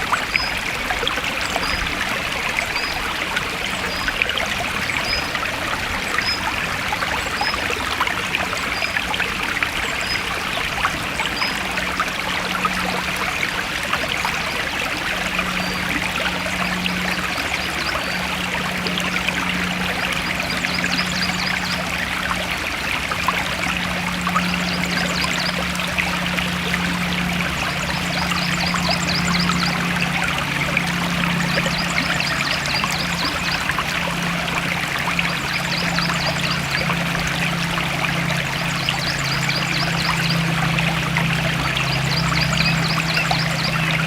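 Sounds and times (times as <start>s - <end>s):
stream flowing and trickling: 0.0s - 44.0s.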